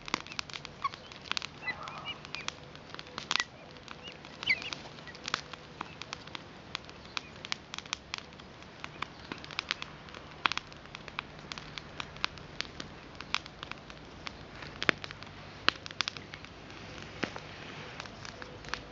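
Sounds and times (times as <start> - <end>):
crackling and sharp clicks: 0.0 - 18.9
loud snaps: 0.0 - 18.9.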